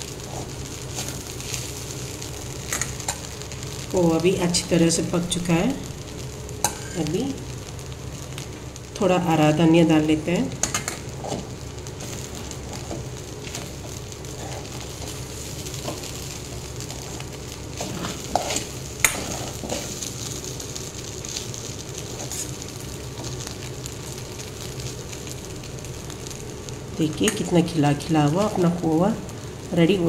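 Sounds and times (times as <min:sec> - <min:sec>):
frying sizzle: 0:00.0 - 0:30.0.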